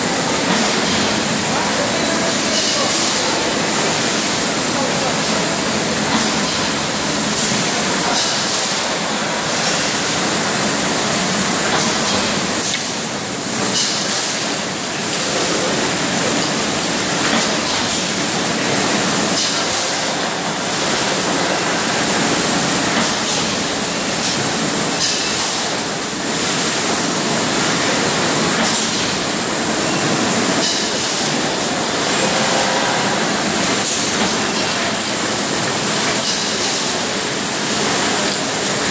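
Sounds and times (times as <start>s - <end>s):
bottling machine hiss: 0.0s - 38.9s.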